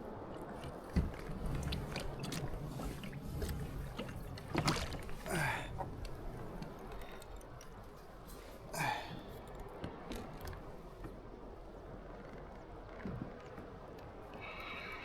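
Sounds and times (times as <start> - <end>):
water lapping around a kayak: 0.0 - 15.0.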